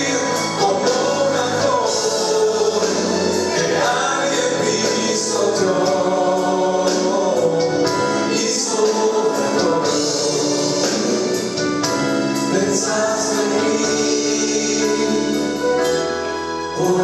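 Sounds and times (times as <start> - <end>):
choir singing held notes: 0.0 - 16.0
instrumental backing: 0.0 - 17.0.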